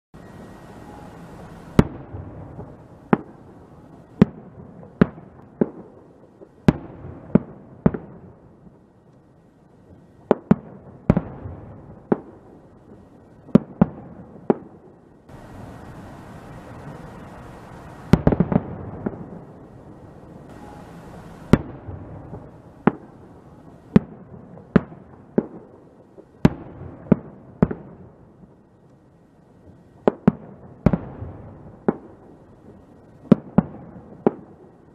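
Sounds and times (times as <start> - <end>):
firework bangs: 0.2 - 8.8, 9.9 - 28.6, 29.6 - 34.9
low noisy rumble: 0.2 - 34.9
steady background hiss: 0.2 - 34.9.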